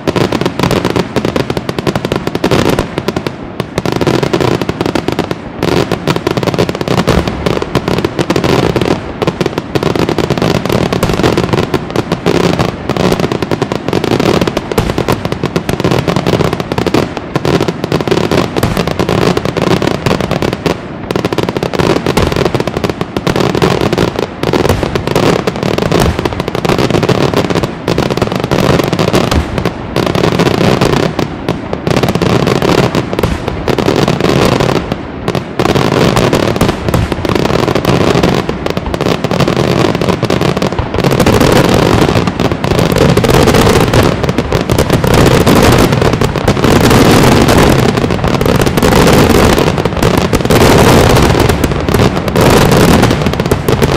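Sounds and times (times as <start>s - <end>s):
firecrackers banging: 0.0s - 53.9s.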